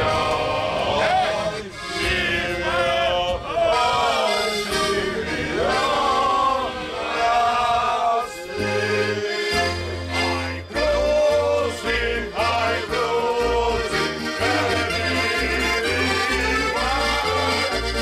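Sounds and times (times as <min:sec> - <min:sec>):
accordion: 0:00.0 - 0:18.0
accordion bass notes: 0:00.0 - 0:18.0
men singing: 0:00.0 - 0:18.0.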